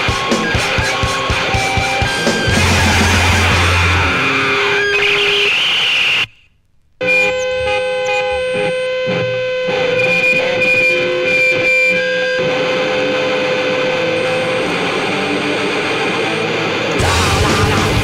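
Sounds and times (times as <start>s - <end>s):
distorted electric guitar feedback: 0.0s - 6.4s, 7.0s - 18.0s.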